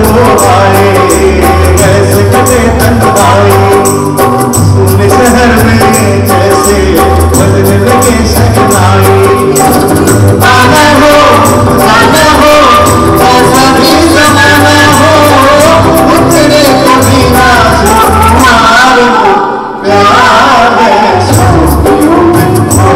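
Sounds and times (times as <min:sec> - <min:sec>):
drums beating: 0:00.0 - 0:18.5, 0:21.3 - 0:22.9
bass: 0:00.0 - 0:18.8, 0:21.3 - 0:22.9
guitar: 0:00.0 - 0:19.8, 0:21.2 - 0:22.9
keyboard: 0:00.0 - 0:22.9
person singing over speakers: 0:00.0 - 0:22.9.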